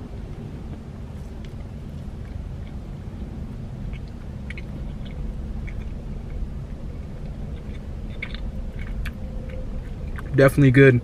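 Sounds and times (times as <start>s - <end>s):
low car cabin rumble: 0.0s - 11.0s
wet mouth clicks chewing: 0.3s - 10.4s.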